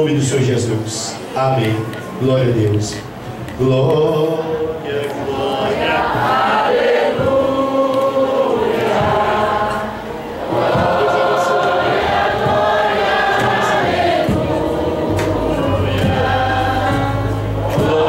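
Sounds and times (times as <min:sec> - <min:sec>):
congregation singing a hymn: 0:02.8 - 0:18.0.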